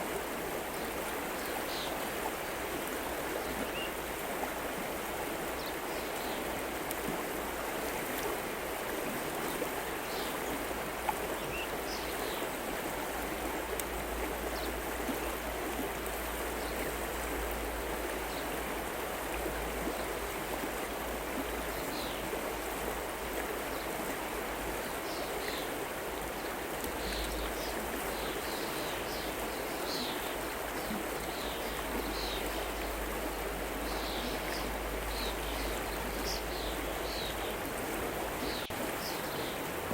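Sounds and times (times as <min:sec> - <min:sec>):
river water running: 0:00.0 - 0:39.9.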